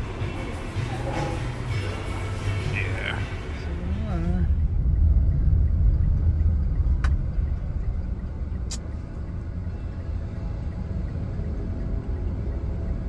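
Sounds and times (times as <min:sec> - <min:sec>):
road noise rumble: 0:00.0 - 0:13.0.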